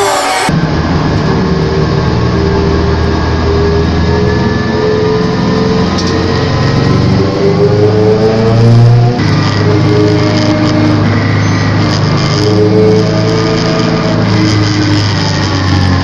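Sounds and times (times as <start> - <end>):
race car engine droning: 0.0 - 16.0.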